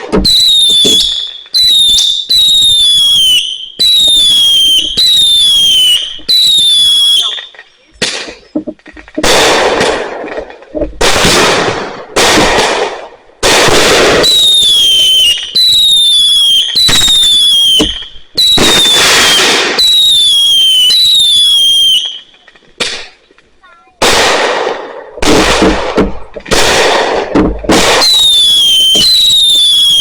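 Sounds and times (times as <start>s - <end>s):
whistling firework shells: 0.0s - 10.3s, 11.0s - 23.4s, 24.0s - 30.0s
firework bangs: 0.0s - 30.0s
fireworks crackling bursts: 0.0s - 30.0s.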